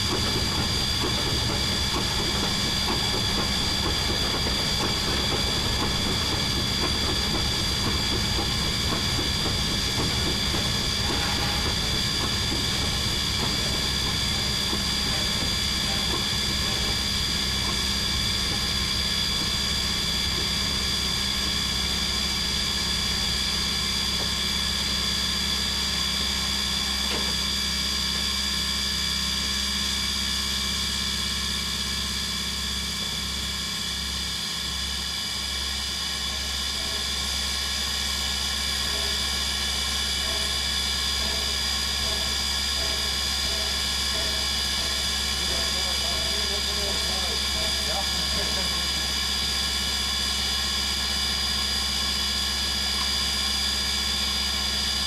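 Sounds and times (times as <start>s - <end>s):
steam hissing: 0.0s - 28.7s, 32.7s - 55.0s.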